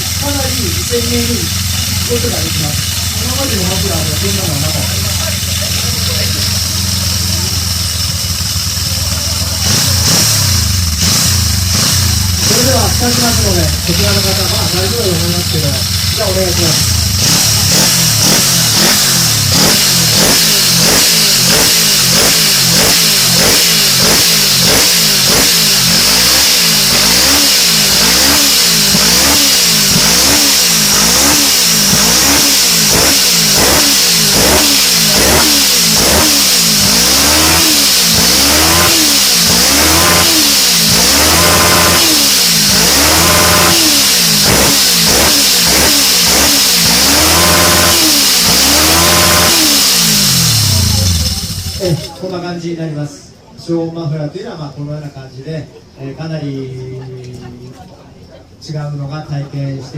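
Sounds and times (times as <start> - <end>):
motorcycle engine revving: 0.0 - 52.4.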